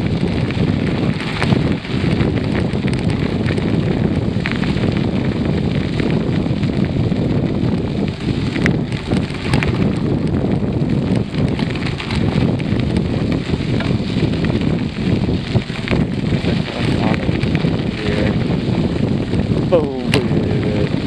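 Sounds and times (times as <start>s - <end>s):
bicycle clicks and rattles: 0.0s - 21.0s
wind buffeting microphone: 0.0s - 21.0s.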